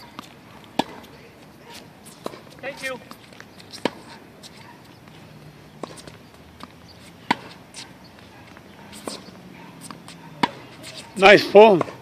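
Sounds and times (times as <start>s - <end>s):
tennis racket hitting ball: 0.0s - 1.1s, 1.7s - 5.0s, 5.7s - 12.0s
tennis ball bouncing: 0.0s - 12.0s.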